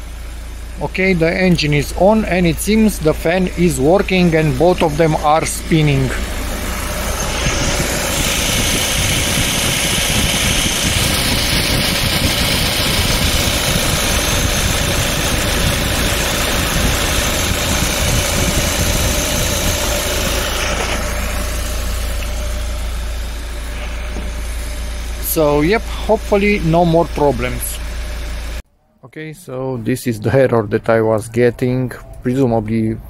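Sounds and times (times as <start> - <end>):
car engine idling: 0.0 - 28.6
radiator fans rushing air: 0.0 - 28.6.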